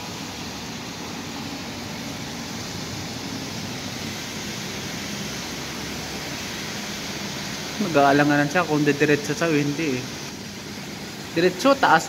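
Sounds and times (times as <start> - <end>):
car tyres through floodwater: 0.0 - 12.0
rain: 0.0 - 12.0.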